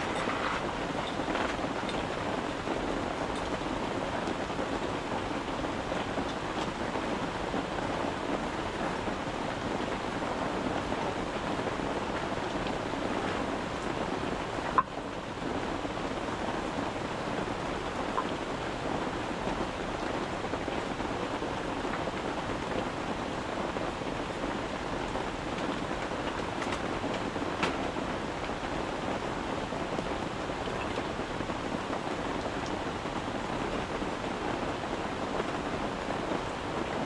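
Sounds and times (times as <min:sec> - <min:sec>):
rain falling on a tent: 0:00.0 - 0:37.0.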